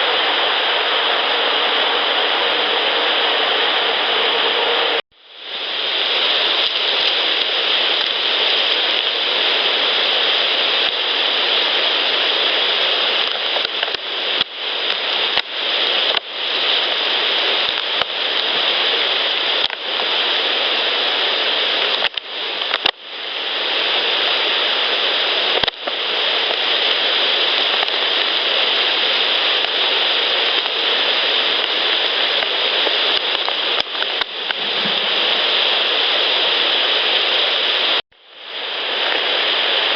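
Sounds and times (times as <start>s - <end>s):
loud recorder hiss: 0.0s - 39.9s.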